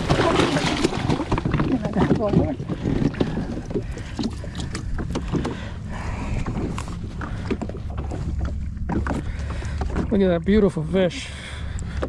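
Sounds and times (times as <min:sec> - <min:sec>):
water splashing against hull: 0:00.0 - 0:12.0
watercraft engine idling: 0:00.0 - 0:12.0.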